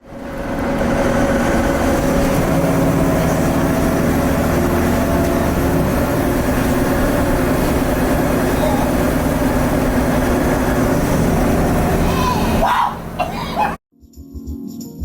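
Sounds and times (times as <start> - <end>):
diesel bus engine with turbo whine: 0.0 - 13.8.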